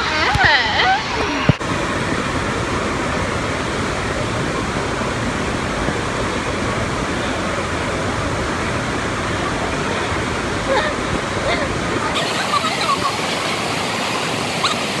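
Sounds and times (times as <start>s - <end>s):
indoor waterpark din: 0.0s - 15.0s
running water rushing: 0.0s - 15.0s.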